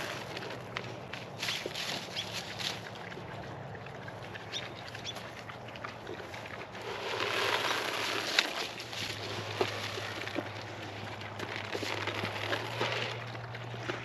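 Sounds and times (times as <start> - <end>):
pigs chewing and rooting: 0.0 - 14.0.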